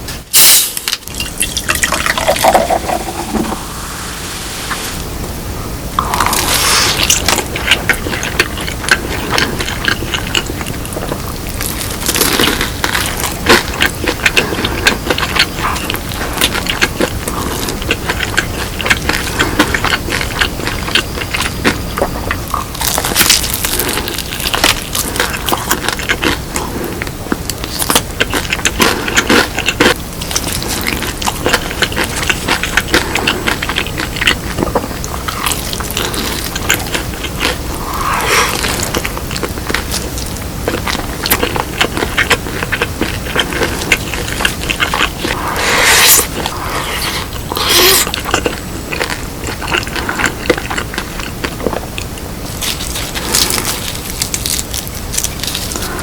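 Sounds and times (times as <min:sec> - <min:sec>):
crunching fried chicken: 0:06.0 - 0:56.0.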